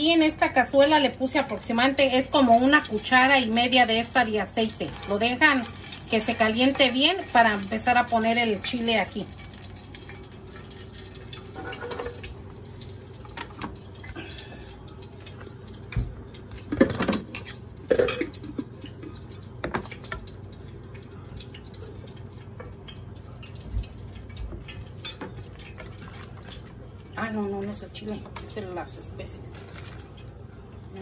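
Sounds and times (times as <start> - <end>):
liquid dripping: 1.2 - 31.0
ladle stirring sloshing liquid: 1.6 - 28.6.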